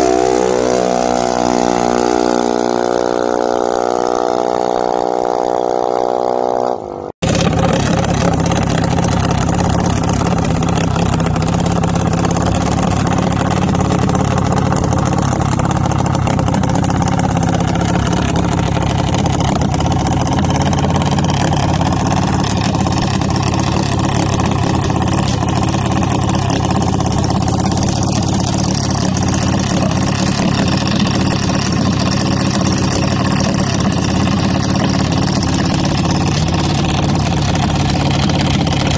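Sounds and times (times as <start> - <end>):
small engine idling: 7.2 - 38.9.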